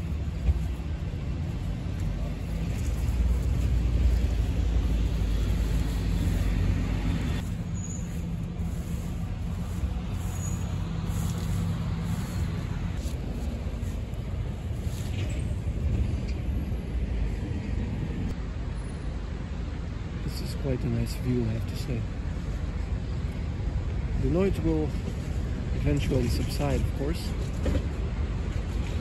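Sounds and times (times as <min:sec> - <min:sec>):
bus engine rumbling: 0:00.0 - 0:29.0
road traffic: 0:00.0 - 0:29.0.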